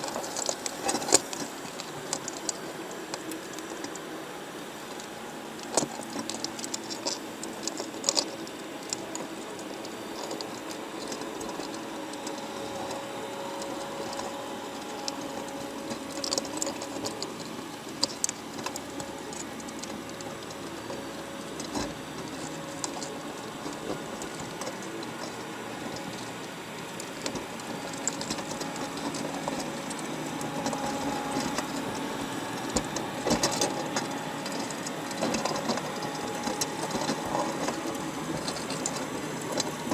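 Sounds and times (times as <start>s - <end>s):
crab shells ticking on mesh: 0.0s - 4.1s, 4.7s - 39.9s
clicks and scrapes: 0.0s - 39.9s
steady underwater hum: 0.0s - 39.9s.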